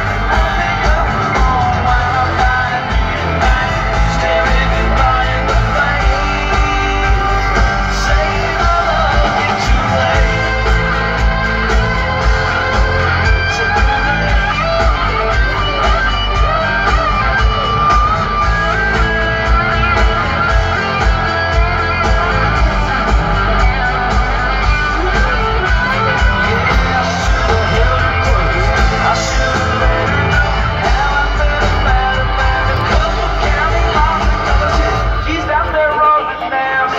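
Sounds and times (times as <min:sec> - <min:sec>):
electric guitar lines: 0:00.0 - 0:36.9
live country-rock band: 0:00.0 - 0:36.9.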